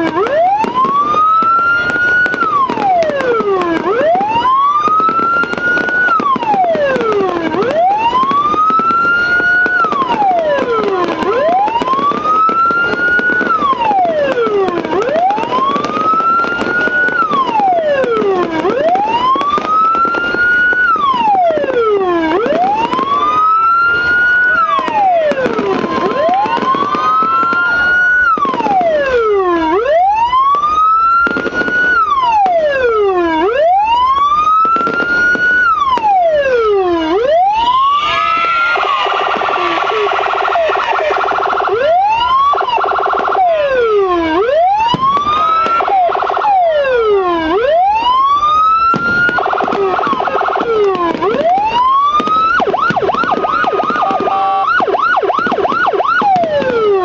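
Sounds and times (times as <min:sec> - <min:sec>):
electronic siren wailing: 0:00.0 - 0:57.0.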